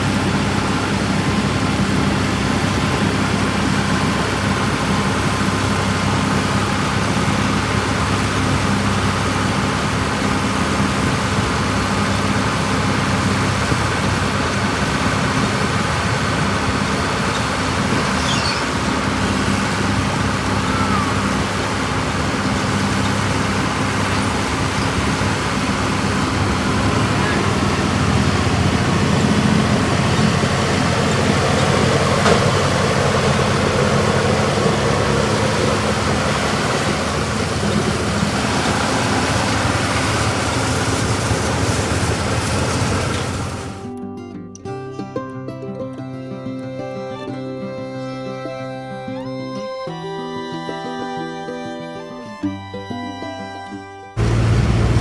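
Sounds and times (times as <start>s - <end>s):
machinery noise: 0.0s - 43.9s, 54.2s - 55.0s
tractor engine running: 0.0s - 43.9s, 54.2s - 55.0s.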